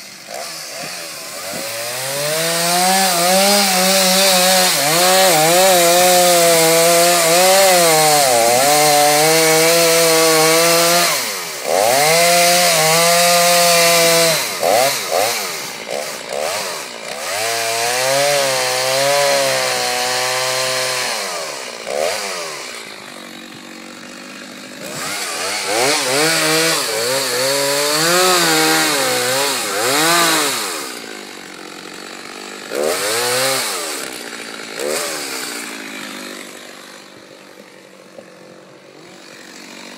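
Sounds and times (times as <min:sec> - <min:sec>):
chainsaw carving wood: 0:00.0 - 0:39.9.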